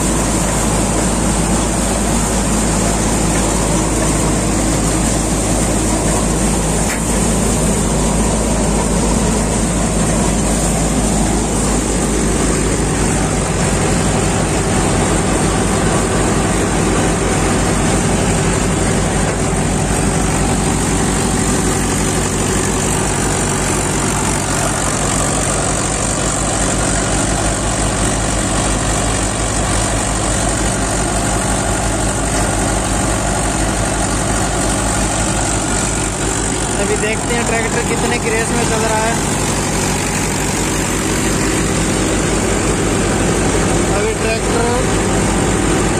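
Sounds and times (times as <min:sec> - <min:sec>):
belt-driven thresher running: 0:00.0 - 0:45.9
tractor diesel engine running: 0:00.0 - 0:45.9.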